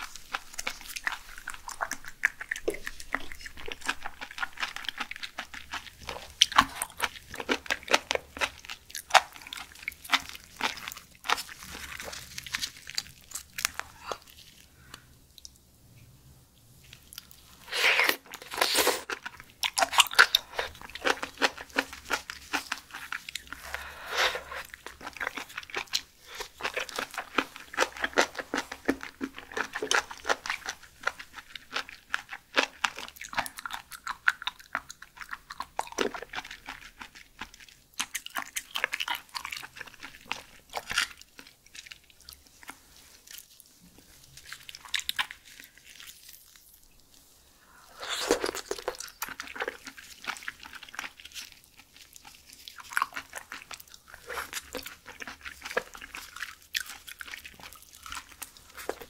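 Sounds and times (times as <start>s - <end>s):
chewing shellfish wet crunches: 0.0s - 15.6s, 16.9s - 59.0s.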